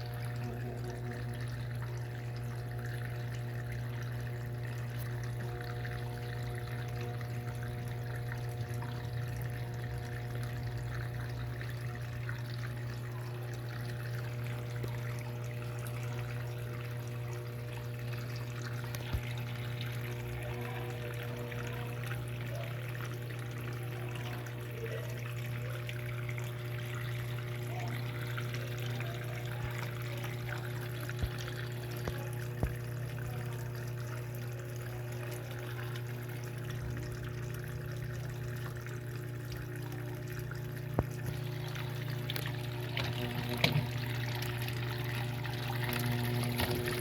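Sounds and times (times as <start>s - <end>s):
washing machine humming: 0.0s - 47.0s
water pouring and trickling: 0.0s - 47.0s.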